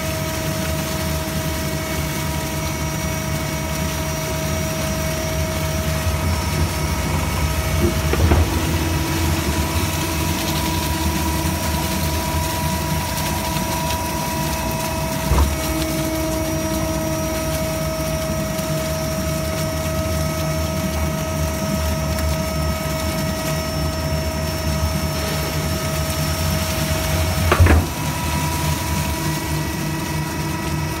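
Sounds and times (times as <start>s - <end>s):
plastic shredder running: 0.0s - 31.0s.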